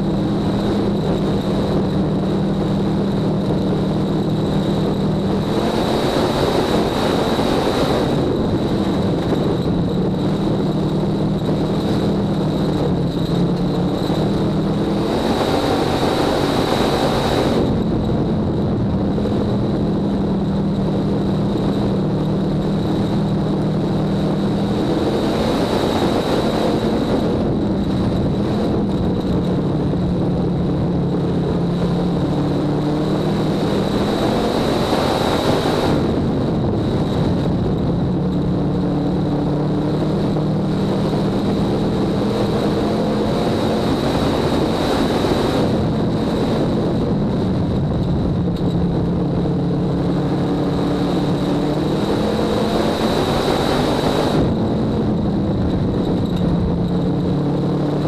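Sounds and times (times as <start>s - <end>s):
race car engine at low revs: 0.0s - 58.0s.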